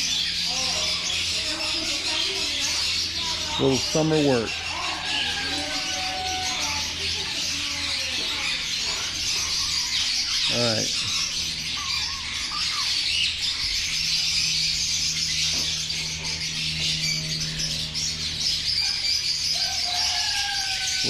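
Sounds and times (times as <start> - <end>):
caged birds chirping: 0.0 - 21.0.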